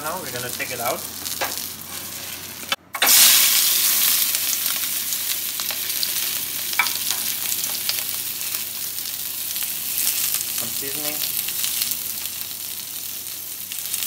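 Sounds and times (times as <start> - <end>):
peppers sizzling in hot oil: 0.0 - 14.0.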